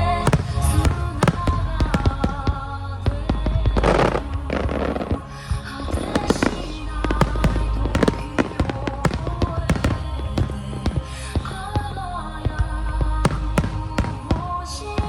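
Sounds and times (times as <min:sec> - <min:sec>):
fireworks bursting: 0:00.0 - 0:11.7, 0:12.6 - 0:15.0
song playing: 0:00.0 - 0:15.0.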